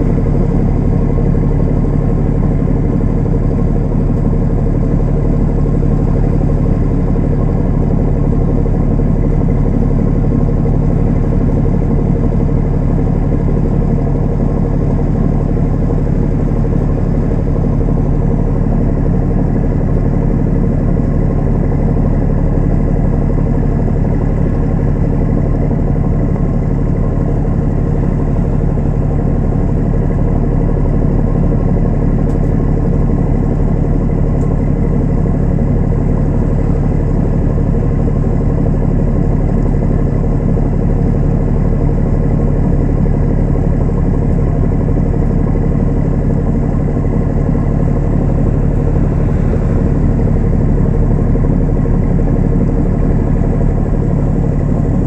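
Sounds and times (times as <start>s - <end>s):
ship engine droning: 0.0s - 55.0s.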